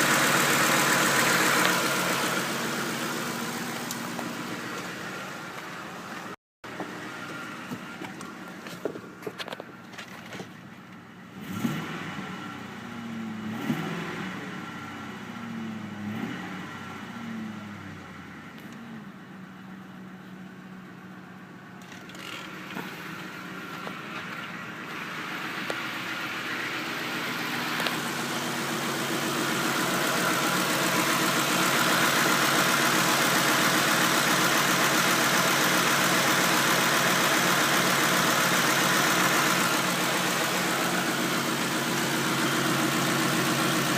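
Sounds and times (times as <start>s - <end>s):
pickup engine starting and running: 0.0s - 43.9s.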